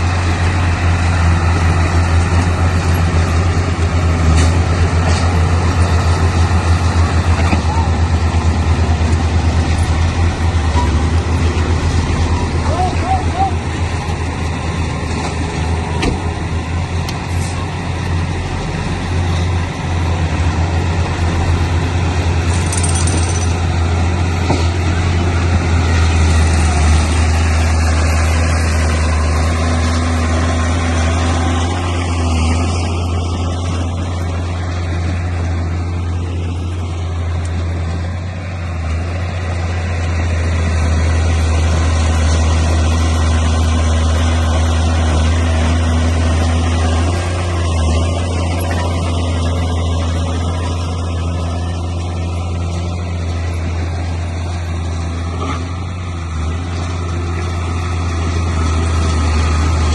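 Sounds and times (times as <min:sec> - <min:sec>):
bulldozer diesel engine drone: 0:00.0 - 0:59.9.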